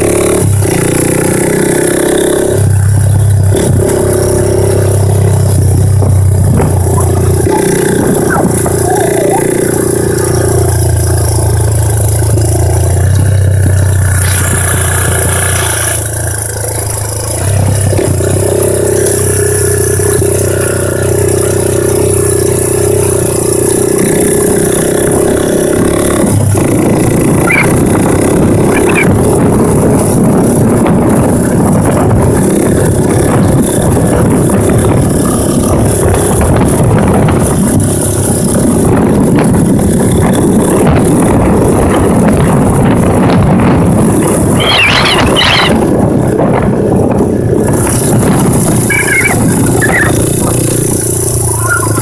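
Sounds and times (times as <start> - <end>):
three-wheeler engine running: 0.0 - 52.0.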